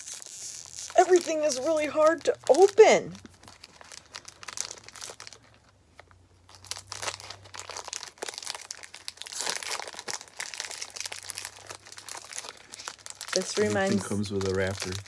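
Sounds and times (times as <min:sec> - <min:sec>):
wrapper crinkling: 0:00.0 - 0:15.0.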